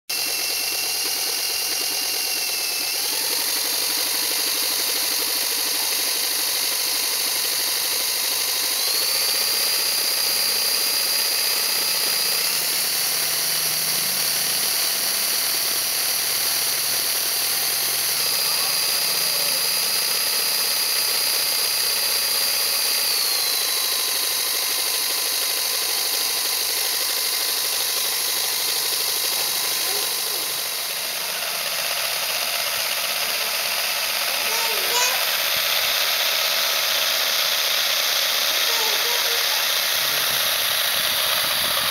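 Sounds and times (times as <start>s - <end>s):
model locomotive motor whining: 0.1s - 41.9s.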